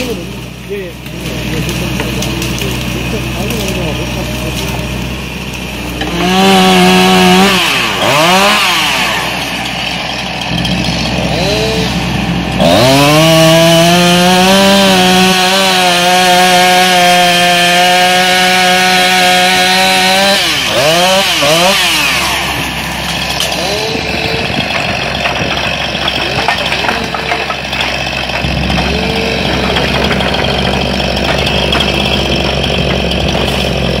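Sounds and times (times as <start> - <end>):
chainsaw revving and cutting: 0.0 - 34.0
excavator engine running: 0.0 - 34.0.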